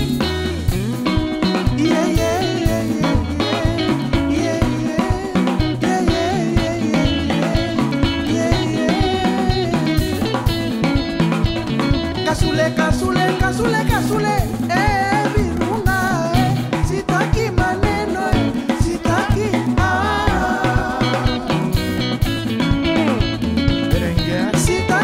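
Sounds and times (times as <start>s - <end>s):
drum kit beat: 0.0s - 25.0s
electric guitar melody: 0.0s - 25.0s.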